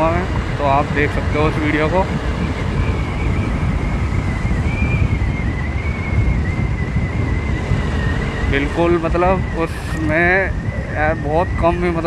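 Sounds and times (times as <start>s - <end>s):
low rumbling road noise: 0.0s - 12.0s
thin steady whine: 0.0s - 12.0s
wind buffeting microphone: 0.0s - 12.0s.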